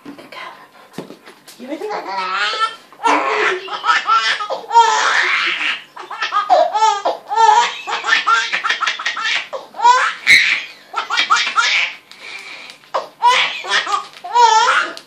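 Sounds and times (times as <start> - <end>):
baby laughing: 2.0 - 12.0, 12.9 - 15.0.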